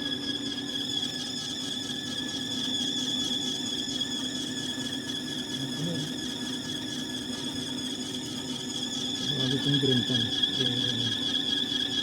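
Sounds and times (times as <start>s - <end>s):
high machine whine: 0.0s - 12.0s.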